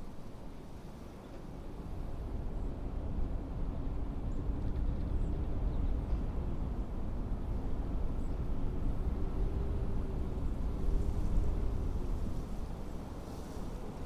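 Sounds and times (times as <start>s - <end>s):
blizzard wind blowing: 0.0s - 14.0s.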